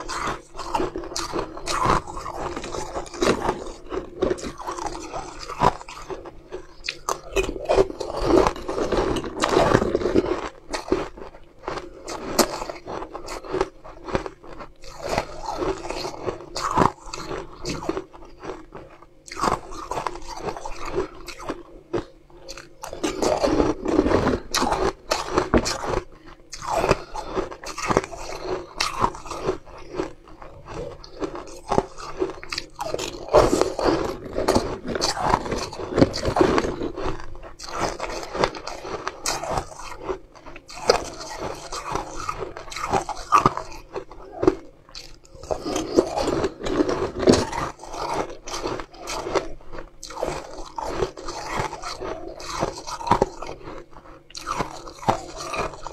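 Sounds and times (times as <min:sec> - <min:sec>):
crunching and chewing: 0:00.0 - 0:55.9.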